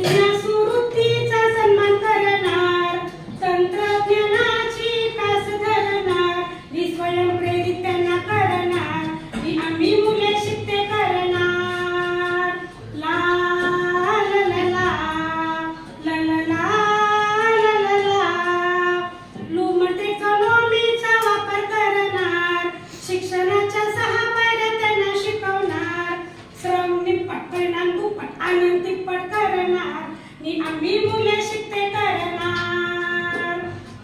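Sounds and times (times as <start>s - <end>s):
woman singing: 0.0s - 34.0s.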